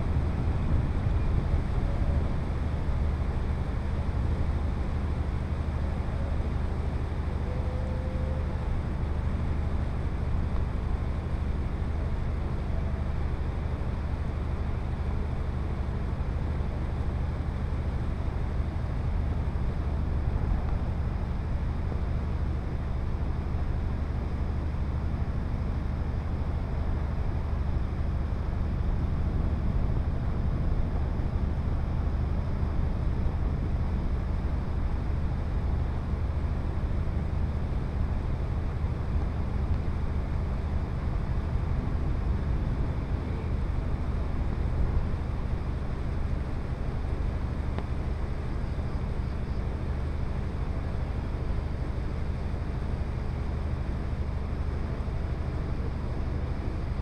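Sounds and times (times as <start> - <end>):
boat engine drone: 0.0 - 57.0.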